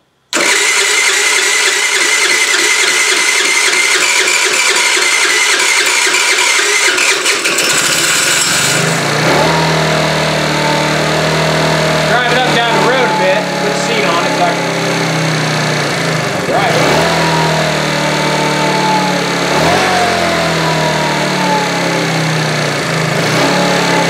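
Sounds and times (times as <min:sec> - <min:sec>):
scooter engine revving and idling: 0:00.3 - 0:24.0.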